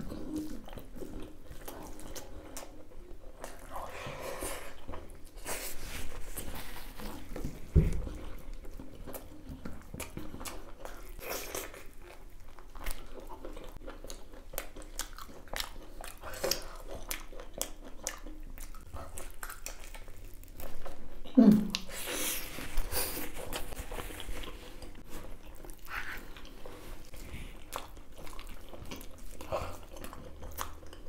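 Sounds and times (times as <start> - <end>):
chewing and biting: 0.0 - 31.0.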